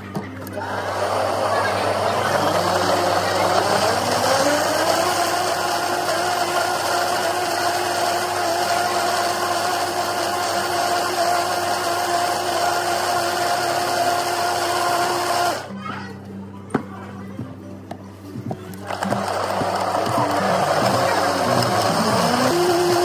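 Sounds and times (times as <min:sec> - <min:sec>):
blender running at high speed: 0:00.5 - 0:15.7, 0:18.9 - 0:23.0.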